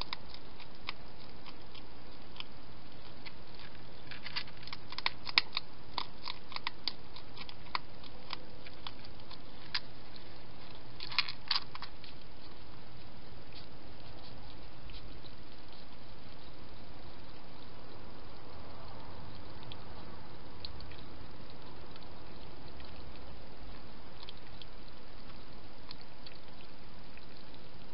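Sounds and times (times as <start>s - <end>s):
hedgehog chewing crunches: 0.0s - 27.9s
steady hiss: 0.0s - 27.9s.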